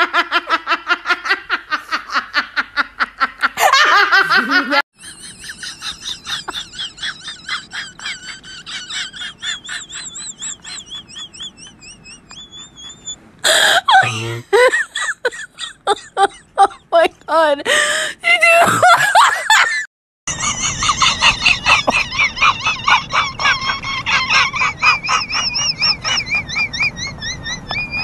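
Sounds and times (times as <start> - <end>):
person laughing hard: 0.0 - 17.0, 17.7 - 28.0
high squeaky laugh: 2.9 - 16.9, 18.4 - 28.0.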